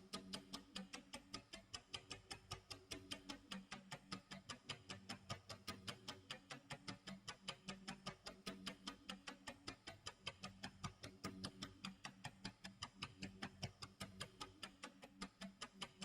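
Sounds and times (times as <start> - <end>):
clock ticking: 0.0 - 16.0.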